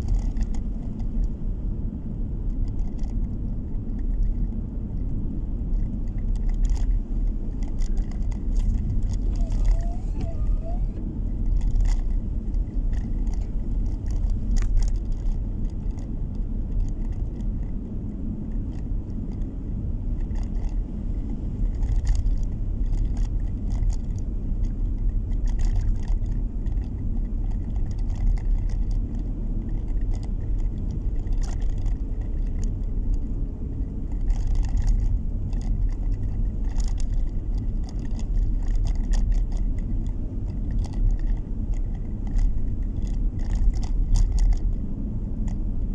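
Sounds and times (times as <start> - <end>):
light clicks and rattles: 0.0 - 1.4, 2.4 - 45.9
engine and tyre rumble: 0.0 - 45.9.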